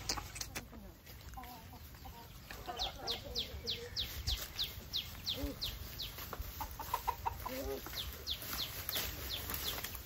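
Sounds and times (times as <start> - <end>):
chicken clucking: 0.0 - 10.0
birds calling high notes: 1.9 - 10.0.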